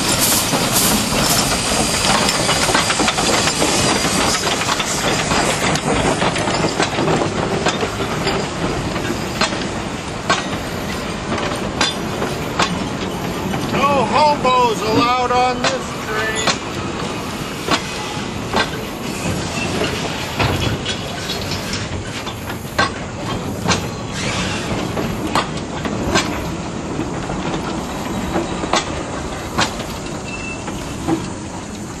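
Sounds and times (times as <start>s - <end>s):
train wheels rumbling on rail: 0.0s - 32.0s
wheels clicking over rail joints: 0.0s - 32.0s.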